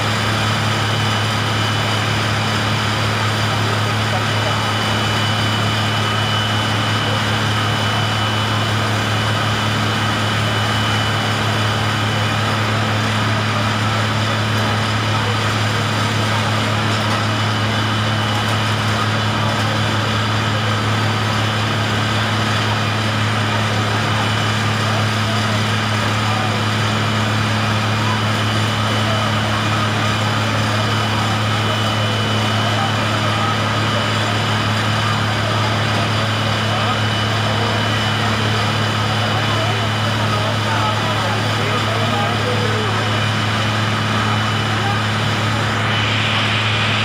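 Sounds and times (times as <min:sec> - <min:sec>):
faint high whine: 0:00.0 - 0:40.8, 0:41.4 - 0:47.0
engine humming steadily: 0:00.0 - 0:47.0.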